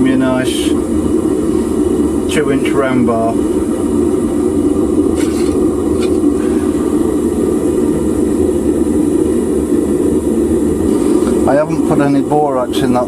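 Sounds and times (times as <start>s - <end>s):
gas burner flame roaring: 0.0s - 13.0s.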